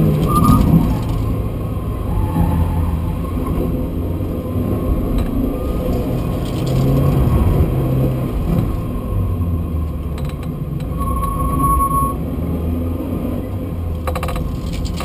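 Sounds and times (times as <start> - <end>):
car engine rising and falling: 0.0 - 15.0
road and tyre rumble: 0.0 - 15.0.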